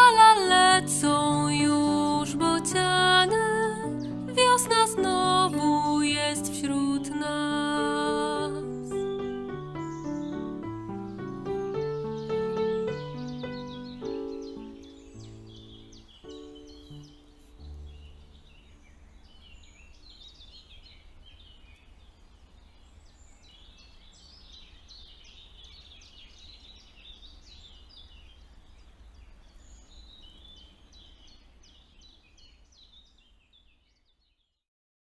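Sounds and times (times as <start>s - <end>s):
small birds chirping: 0.0s - 34.6s.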